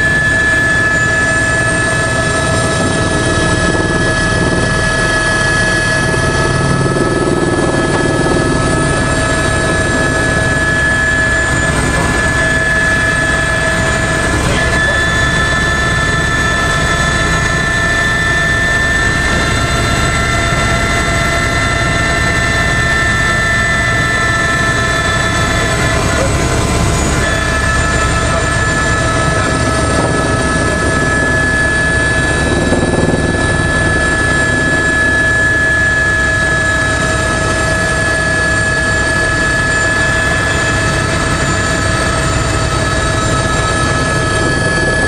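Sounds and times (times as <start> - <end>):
helicopter rotor chop: 0.0 - 45.0
helicopter turbine whine: 0.0 - 45.0.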